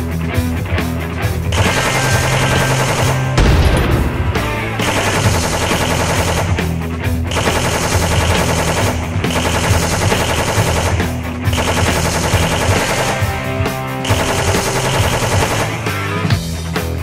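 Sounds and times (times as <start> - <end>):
background music: 0.0 - 17.0
machine-gun fire: 1.6 - 16.0.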